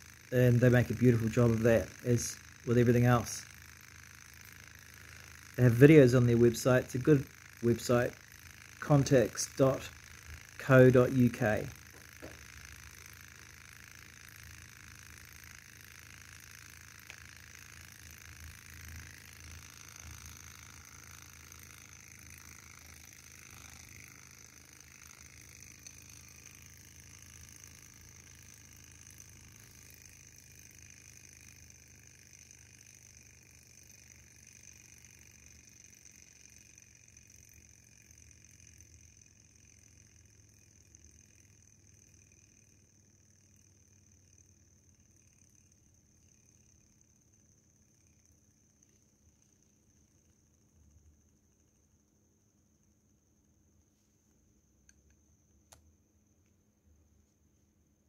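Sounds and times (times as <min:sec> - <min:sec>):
small hot air engine running: 0:00.0 - 0:58.0.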